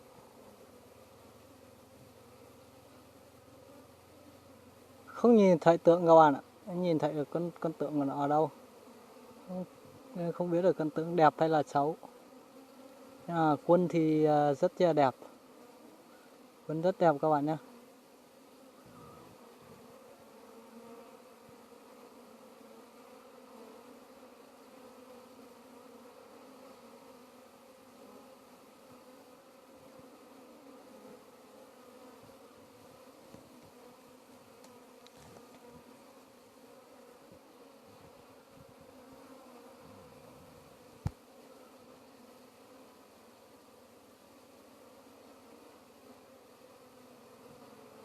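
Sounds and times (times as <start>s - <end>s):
bees humming in hive: 0.0s - 48.0s.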